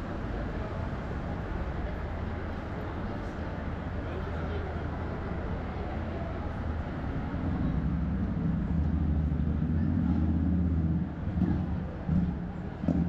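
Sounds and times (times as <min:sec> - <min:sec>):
street traffic: 0:00.0 - 0:13.0
vehicle engine running: 0:00.0 - 0:13.0.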